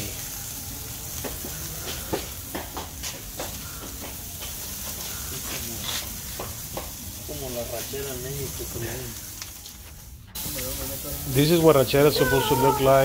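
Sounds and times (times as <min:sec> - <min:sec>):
steak sizzling on grill: 0:00.0 - 0:13.0.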